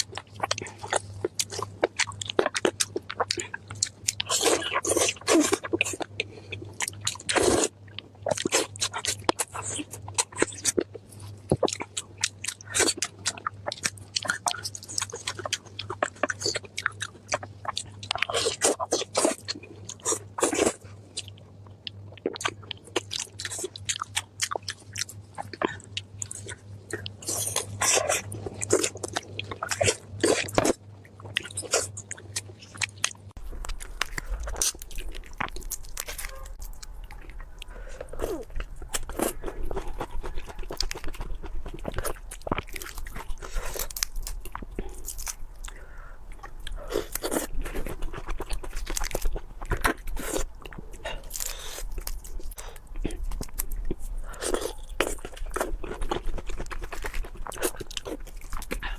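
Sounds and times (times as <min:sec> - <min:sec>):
crunching crispy food: 0:00.0 - 0:58.9
low steady hum: 0:00.0 - 0:58.9.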